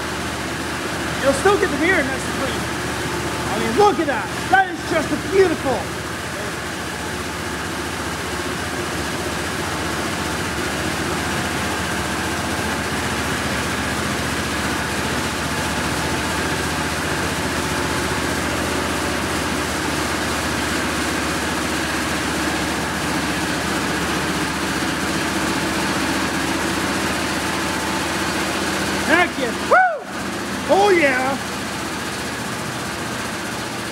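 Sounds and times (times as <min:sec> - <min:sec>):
machine hum: 0:00.0 - 0:33.9
water jets spraying car: 0:00.0 - 0:33.9.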